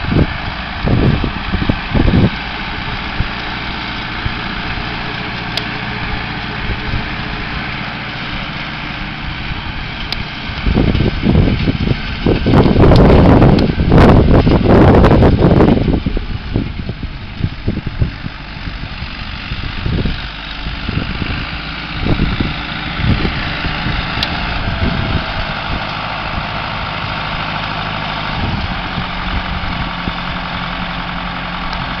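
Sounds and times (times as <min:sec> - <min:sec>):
wind on microphone: 0:00.0 - 0:05.1, 0:09.3 - 0:32.0
tractor engine running: 0:00.0 - 0:32.0.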